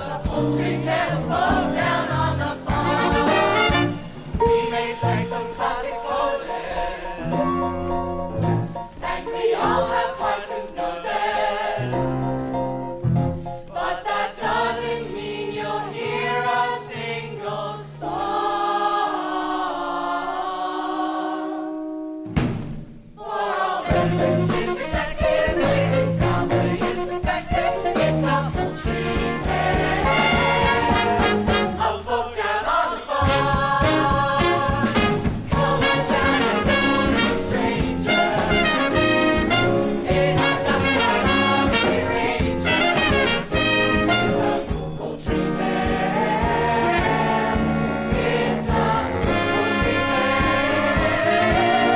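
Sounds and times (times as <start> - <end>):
instrumental accompaniment: 0.0 - 51.9.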